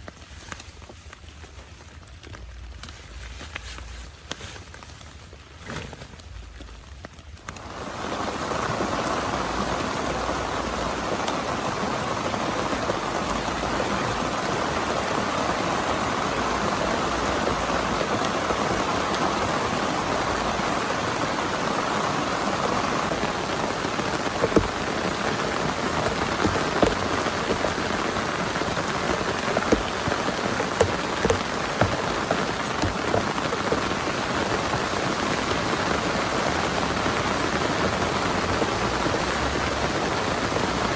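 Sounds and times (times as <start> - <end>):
heavy rain falling: 6.2 - 40.9.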